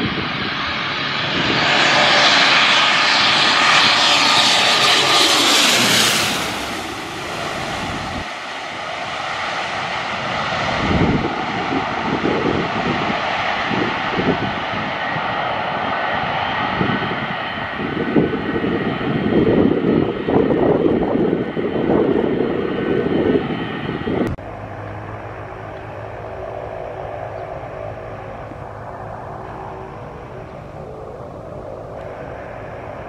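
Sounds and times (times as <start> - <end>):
distant aircraft engine hum: 0.0 - 33.0
turboprop airliner landing: 0.0 - 33.0
wind rumble on microphone: 0.0 - 33.0.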